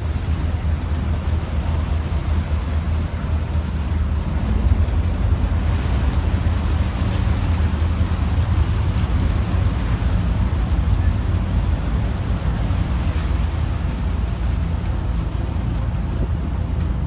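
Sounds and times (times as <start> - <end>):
boat engine drone: 0.0 - 17.0
wind and water noise: 0.0 - 17.0.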